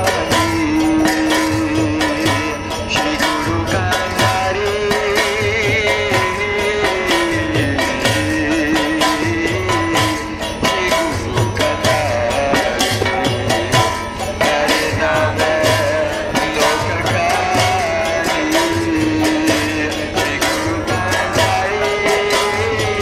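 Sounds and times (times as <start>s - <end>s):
hand cymbals: 0.0s - 23.0s
hand drum beat: 0.0s - 23.0s
man singing into a microphone: 0.0s - 23.0s.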